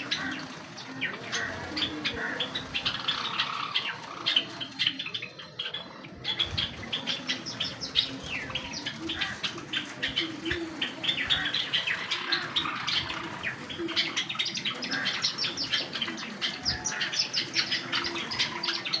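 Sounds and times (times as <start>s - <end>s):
sparrows chirping: 0.0s - 19.0s.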